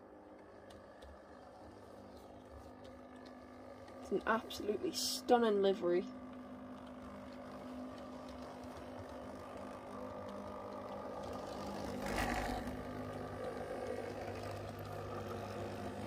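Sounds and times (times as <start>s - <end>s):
model train motor whir: 0.0s - 16.0s
wheel rumble on rails: 0.0s - 16.0s.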